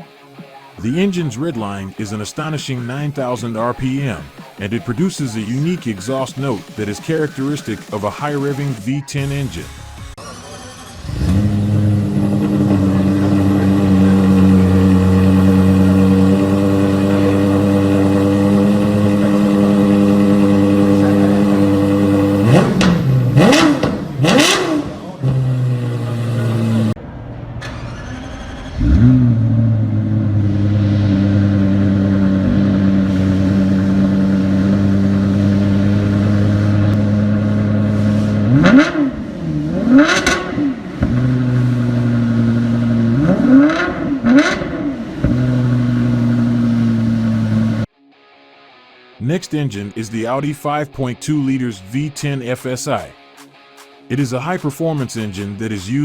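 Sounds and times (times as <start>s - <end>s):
car engine starting: 0.0s - 47.9s
car engine idling: 0.8s - 47.9s
car engine revving in blips: 0.8s - 47.9s.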